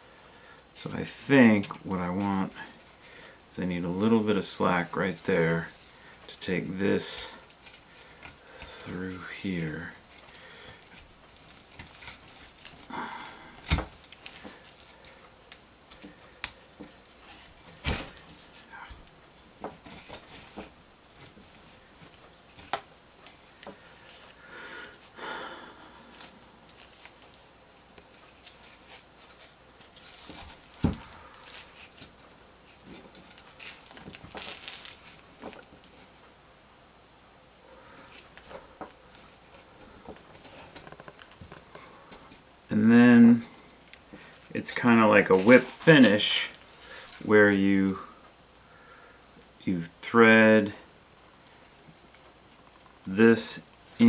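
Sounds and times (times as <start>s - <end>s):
twine rustling: 0.0s - 54.0s.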